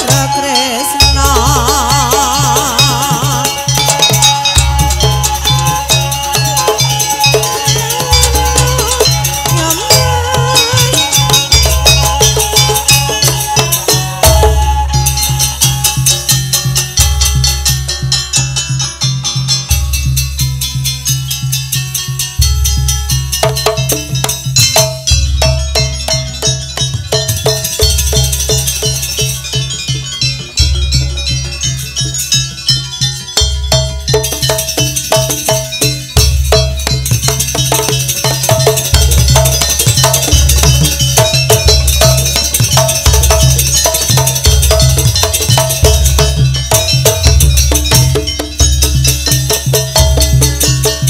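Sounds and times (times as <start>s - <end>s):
drums and tuned percussion: 0.0s - 51.0s
ringing metallic notes: 0.0s - 51.0s.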